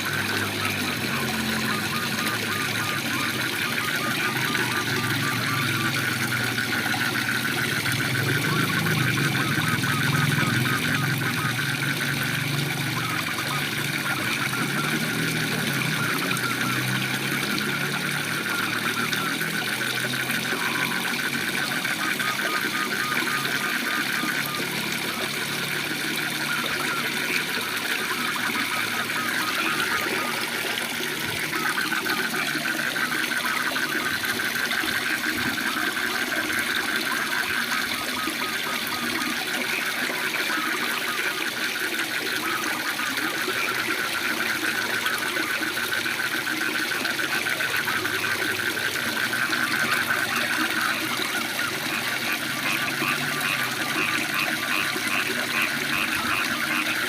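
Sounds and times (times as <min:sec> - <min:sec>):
frogs trilling: 0:00.0 - 0:57.0.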